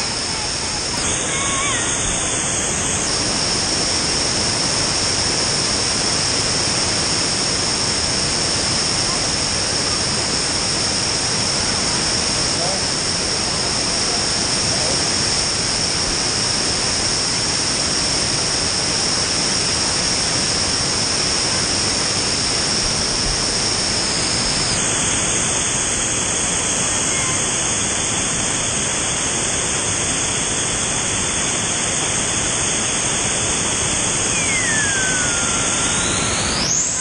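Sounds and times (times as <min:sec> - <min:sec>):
waterfall roaring: 0:00.0 - 0:19.7, 0:26.2 - 0:37.0
high-pitched whine: 0:00.0 - 0:37.0.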